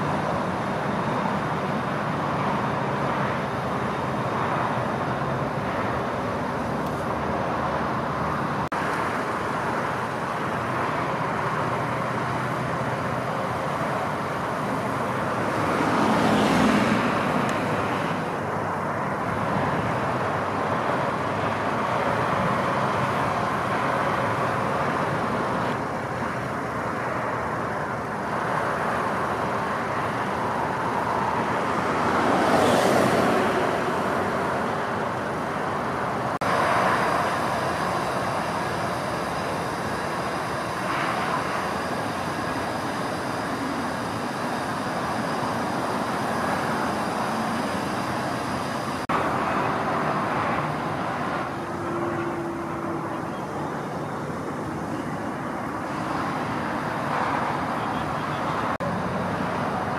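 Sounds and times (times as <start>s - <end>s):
roadside traffic noise: 0.0s - 59.9s
vehicles passing close by: 0.0s - 59.9s.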